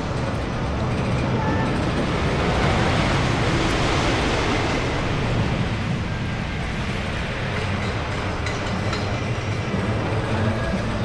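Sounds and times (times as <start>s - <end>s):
wooden roller coaster rumbling: 0.0s - 11.0s.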